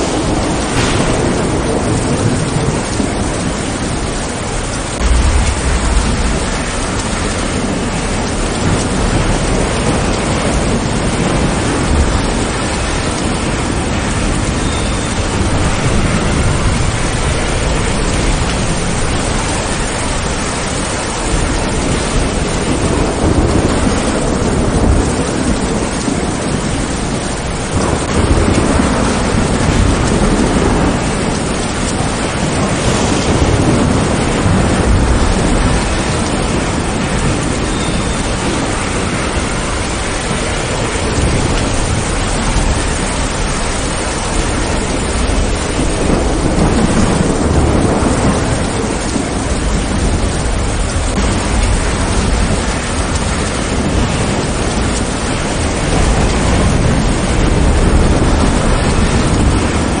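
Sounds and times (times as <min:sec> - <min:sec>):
heavy rain falling: 0:00.0 - 1:00.0
thunder rumbling: 0:00.0 - 1:00.0.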